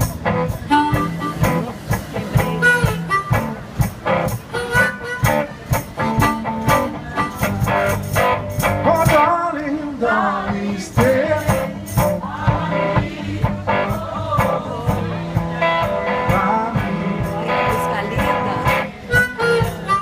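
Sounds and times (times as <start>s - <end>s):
wavering lead melody: 0.0s - 9.2s, 11.1s - 20.0s
foot-worked percussion beat: 0.0s - 9.3s, 11.0s - 20.0s
strummed blues guitar: 0.0s - 20.0s.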